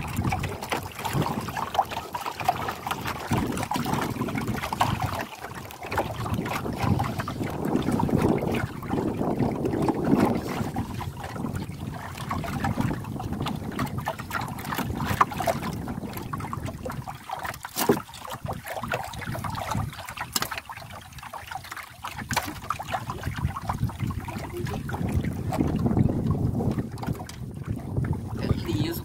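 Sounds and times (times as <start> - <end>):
wind buffeting microphone: 0.0 - 21.2, 22.1 - 29.0
water lapping against canoe hull: 0.0 - 29.0.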